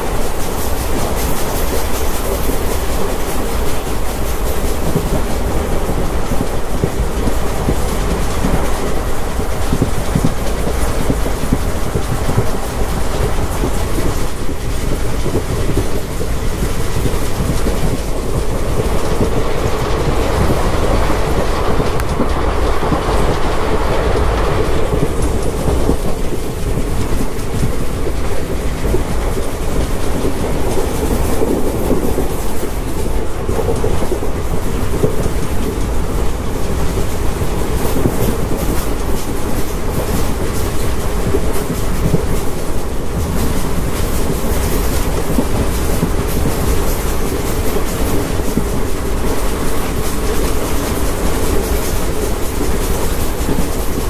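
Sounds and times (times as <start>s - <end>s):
train wheels clattering on track: 0.0s - 54.0s.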